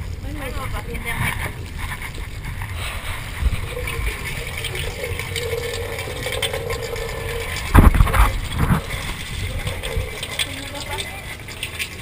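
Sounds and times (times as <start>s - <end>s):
low rumble: 0.0s - 10.4s
water hissing through hose: 1.0s - 12.0s.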